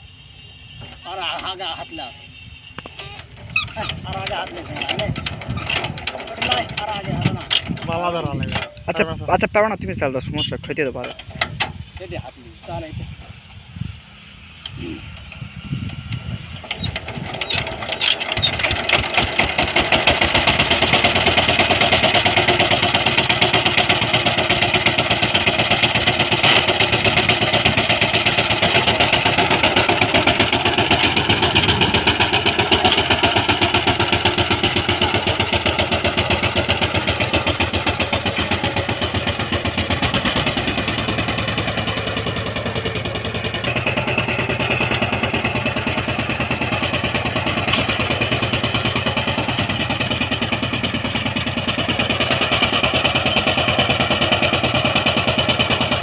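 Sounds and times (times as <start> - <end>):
diesel engine chugging: 0.0 - 56.0
tiller blades churning soil: 0.5 - 9.5, 10.1 - 13.7, 14.6 - 56.0.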